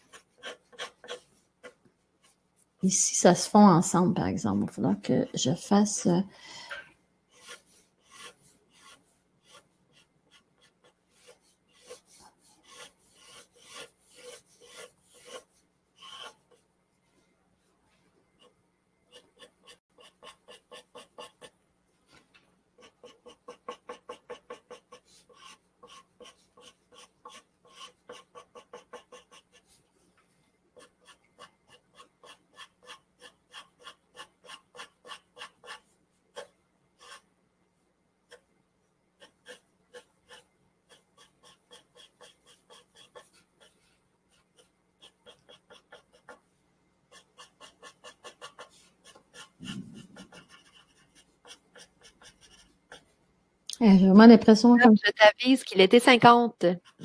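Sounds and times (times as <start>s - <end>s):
pencil shading on paper: 0.0s - 2.4s, 4.6s - 16.7s, 18.4s - 21.6s, 22.8s - 29.9s, 30.7s - 37.3s, 38.3s - 53.2s, 56.8s - 57.0s.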